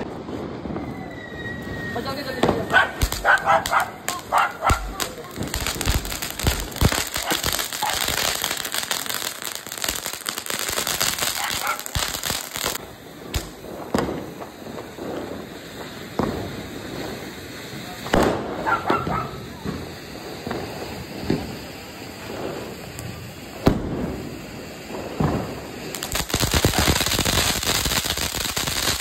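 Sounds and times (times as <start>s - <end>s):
firecrackers cracking and popping: 0.0s - 29.0s
hiss of spraying sparks: 2.7s - 29.0s.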